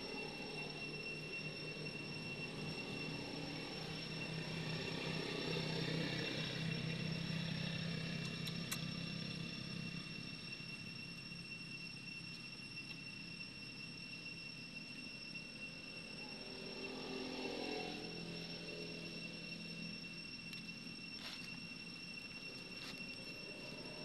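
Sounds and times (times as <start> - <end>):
steady high-pitched tones: 0.0 - 24.0.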